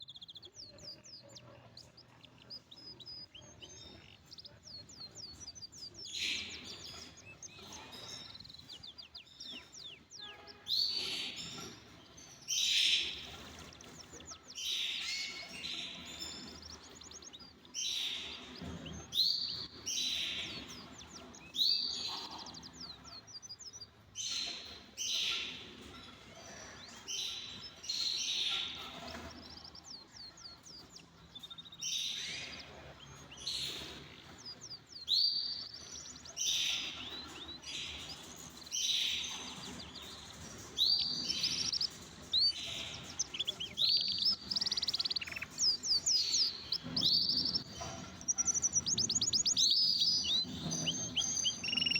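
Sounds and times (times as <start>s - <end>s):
canaries singing trills: 0.0s - 51.9s.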